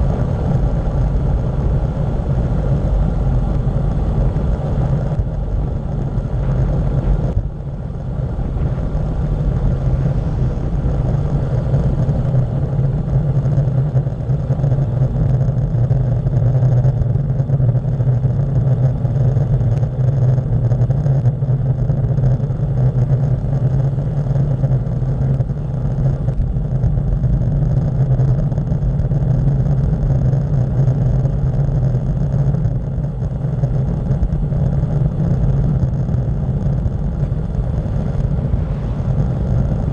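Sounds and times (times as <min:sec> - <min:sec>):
tyres rumbling on asphalt: 0:00.0 - 0:39.9
wind buffeting microphone: 0:00.0 - 0:39.9.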